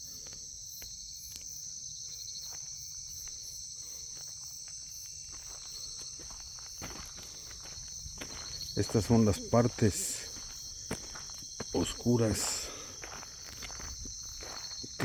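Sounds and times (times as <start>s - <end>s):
crickets chirping: 0.0s - 15.0s
faint footsteps on ground: 0.2s - 15.0s.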